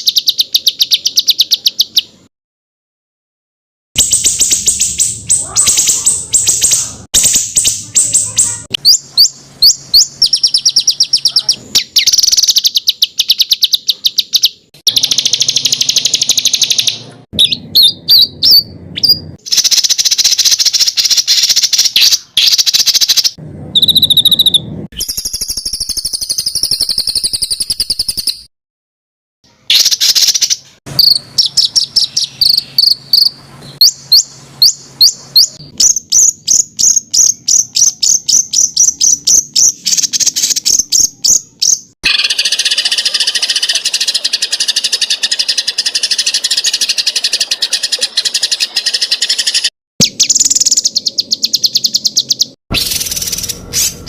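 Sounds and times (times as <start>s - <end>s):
songbird trills and chattering: 0.0s - 2.2s, 4.0s - 28.4s, 29.7s - 54.0s.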